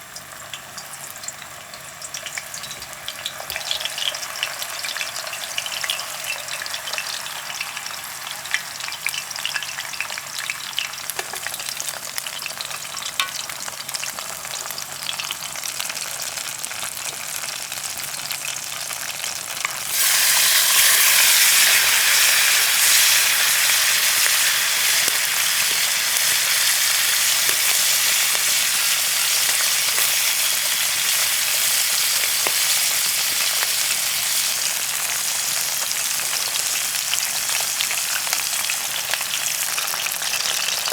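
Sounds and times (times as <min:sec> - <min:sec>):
plantain frying with crackling sizzle: 0:00.0 - 0:40.9
shrimp sauteing with hissing sizzle: 0:00.0 - 0:40.9.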